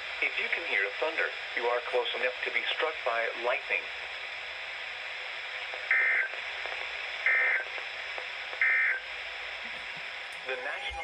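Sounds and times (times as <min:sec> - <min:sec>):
radio broadcast hiss: 0:00.0 - 0:11.0.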